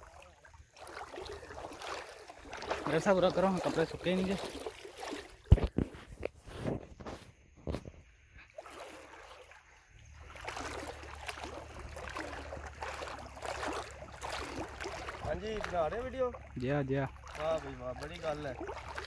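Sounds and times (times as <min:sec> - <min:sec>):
water splashing around wading person: 0:00.0 - 0:19.0.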